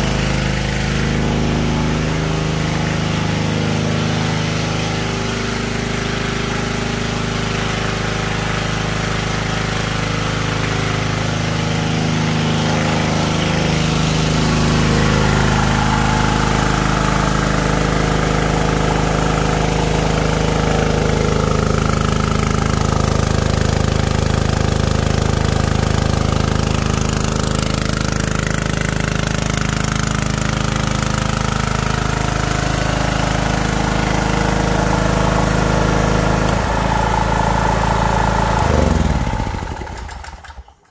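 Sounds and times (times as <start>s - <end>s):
petrol generator running: 0.0s - 40.9s.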